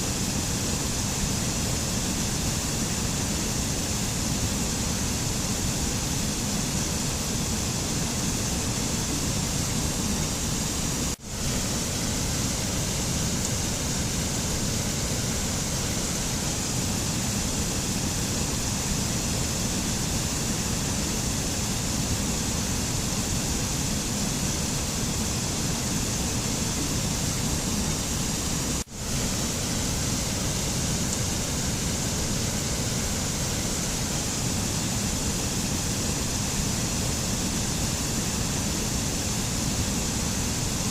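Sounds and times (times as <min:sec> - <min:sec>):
steady rushing nature ambience: 0:00.0 - 0:40.9.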